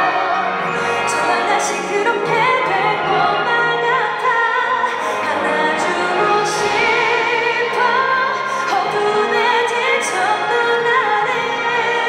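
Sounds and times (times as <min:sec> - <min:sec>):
orchestral strings: 0:00.0 - 0:12.0
woman singing a slow ballad: 0:00.7 - 0:12.0.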